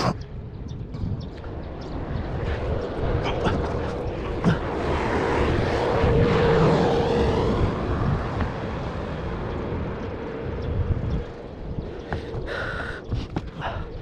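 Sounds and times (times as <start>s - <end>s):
engine drone passing by: 0.1s - 12.5s.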